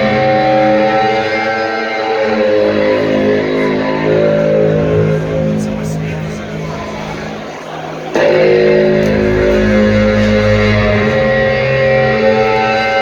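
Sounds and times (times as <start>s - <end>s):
live rock band playing: 0.0s - 7.2s, 8.1s - 13.0s.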